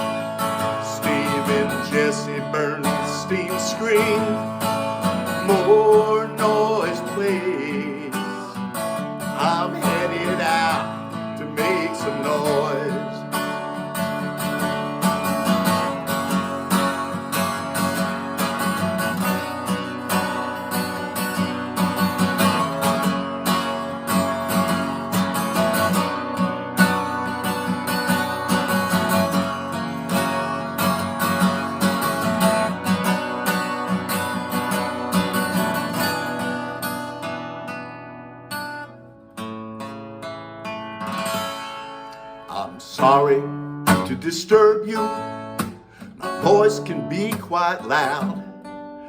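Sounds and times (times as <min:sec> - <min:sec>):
acoustic guitar strumming: 0:00.0 - 0:49.0.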